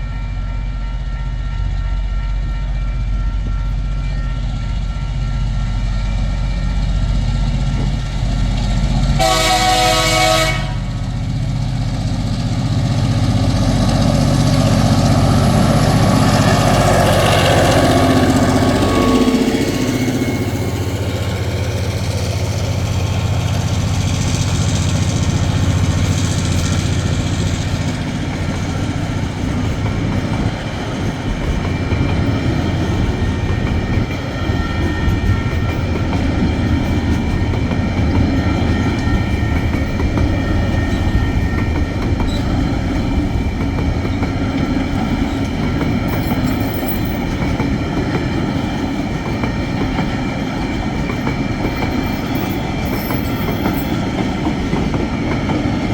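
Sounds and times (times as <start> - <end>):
diesel locomotive engine rumble: 0.0 - 55.9
train wheels clacking over rails: 7.5 - 55.9.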